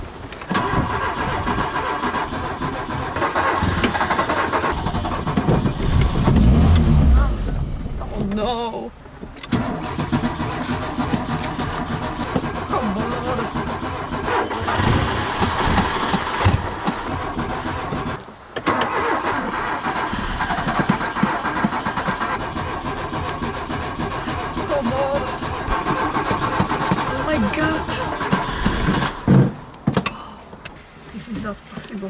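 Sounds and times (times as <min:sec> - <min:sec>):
car engine cranking on starter: 0:00.0 - 0:30.8.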